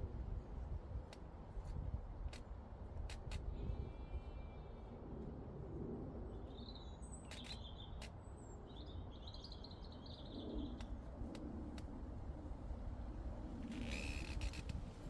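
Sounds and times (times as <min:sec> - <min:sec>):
low rumble of breeze: 0:00.0 - 0:07.2, 0:08.2 - 0:15.0.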